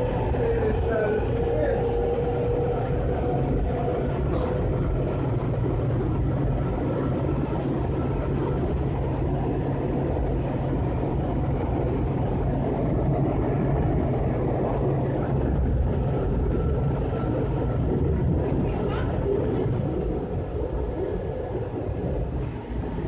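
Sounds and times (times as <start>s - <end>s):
low hum: 0.0s - 23.0s
train rumble: 0.0s - 23.0s.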